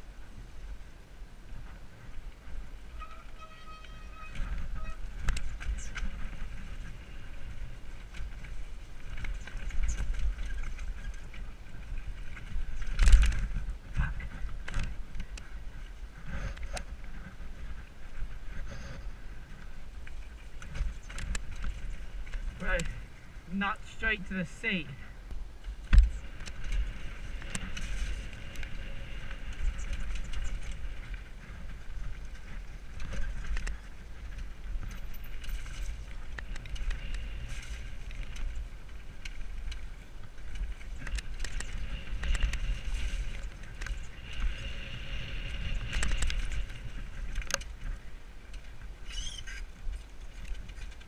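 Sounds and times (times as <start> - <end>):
bike rattling: 0.0 - 24.0, 25.1 - 51.0
wind rumbling on microphone: 0.0 - 51.0.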